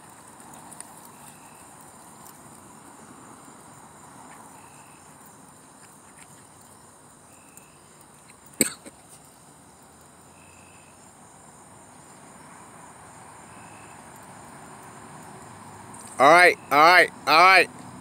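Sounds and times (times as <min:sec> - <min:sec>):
short lower insect call: 0:00.9 - 0:18.0
insect high-pitched trill: 0:01.0 - 0:17.6.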